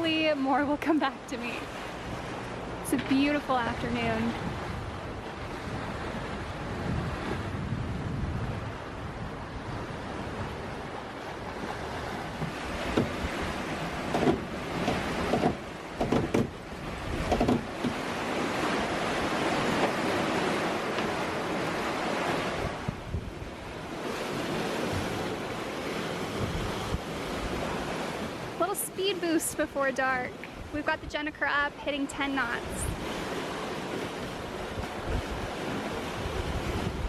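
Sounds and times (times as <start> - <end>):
water rushing and splashing along hulls: 0.0 - 37.0
wind on microphone: 1.4 - 37.0.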